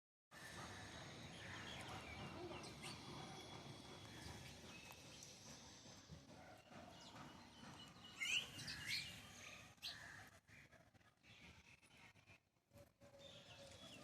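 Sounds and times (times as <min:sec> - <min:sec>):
low outdoor background noise: 0:00.3 - 0:14.0.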